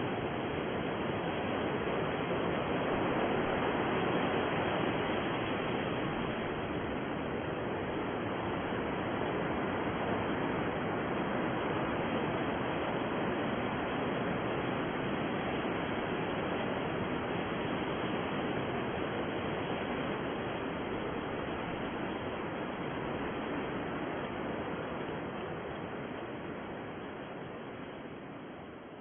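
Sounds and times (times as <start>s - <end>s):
deep white noise hiss: 0.0s - 29.0s.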